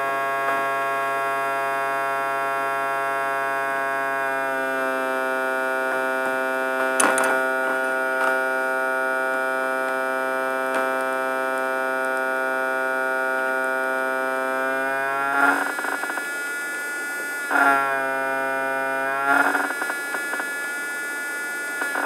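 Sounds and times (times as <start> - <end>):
steady electrical buzz: 0.0 - 22.0.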